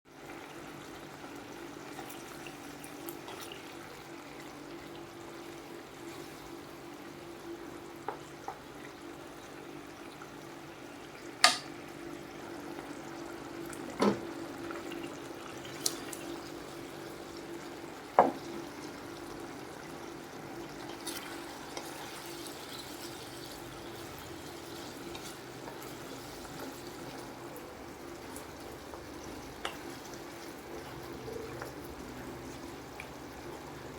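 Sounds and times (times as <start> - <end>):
cooking hiss: 0.1 - 33.9.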